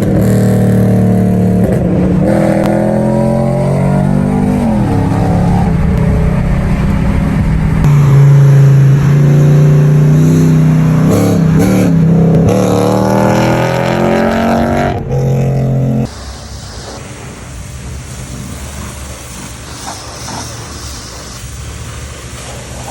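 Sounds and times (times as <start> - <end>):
car engine running under load: 0.0 - 22.9.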